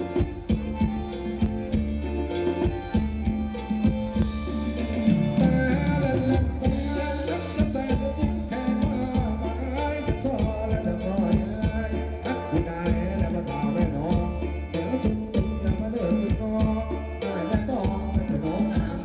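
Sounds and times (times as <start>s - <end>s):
wavering melody: 0.0s - 18.6s
bass line: 0.0s - 19.0s
steady drum beat: 0.0s - 19.0s.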